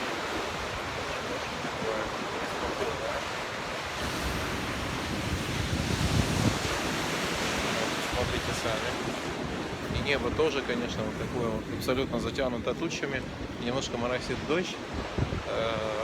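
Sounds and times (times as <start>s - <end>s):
waves breaking and rushing: 0.0s - 16.0s
wind buffeting microphone: 0.0s - 16.0s.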